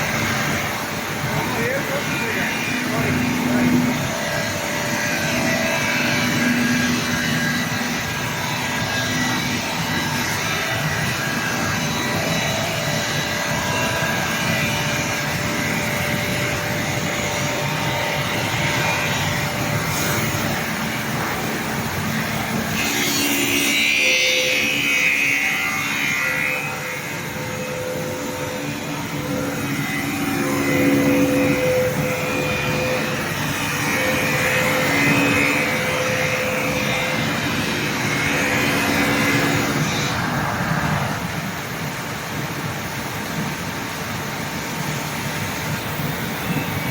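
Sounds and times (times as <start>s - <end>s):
machine grinding glass: 0.0s - 40.5s.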